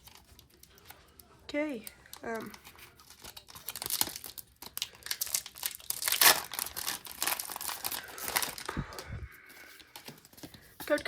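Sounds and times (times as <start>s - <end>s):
foil wrapper crinkling and tearing: 0.0s - 1.2s, 1.8s - 11.0s.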